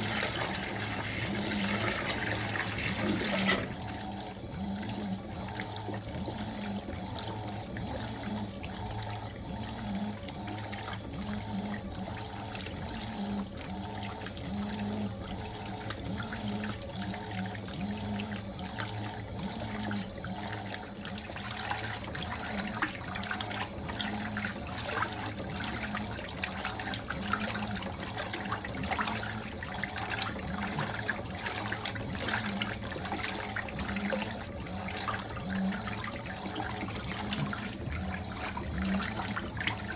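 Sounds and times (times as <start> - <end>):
water splashing in washing machine: 0.0 - 39.9.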